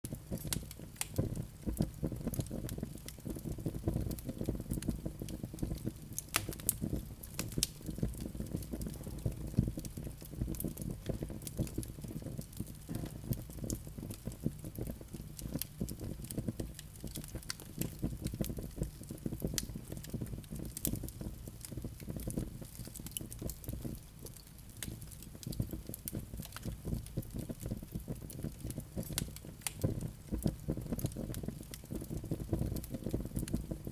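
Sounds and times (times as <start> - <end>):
fire crackling and popping: 0.1 - 33.9
steady low rush of fire: 0.1 - 33.9.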